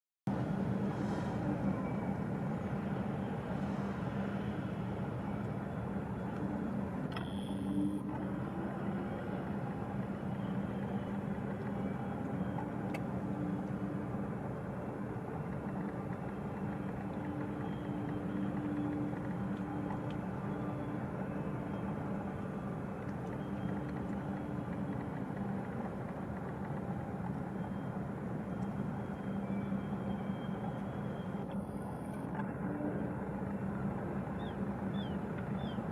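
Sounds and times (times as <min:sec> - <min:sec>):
ship engines droning: 0:00.3 - 0:35.9.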